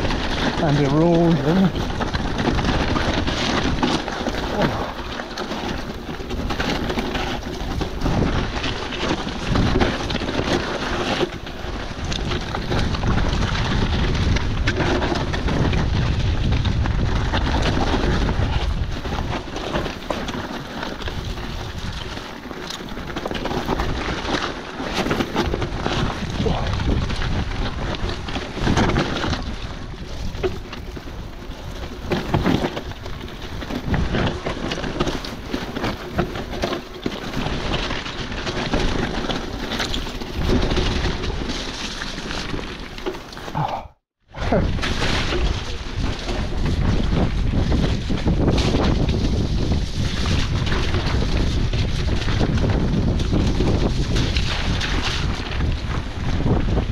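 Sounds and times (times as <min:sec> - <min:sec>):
bike rattling over bumps: 0:00.0 - 0:56.9
bike tyres churning through mud: 0:00.0 - 0:56.9
wind rumble on microphone: 0:00.0 - 0:56.9.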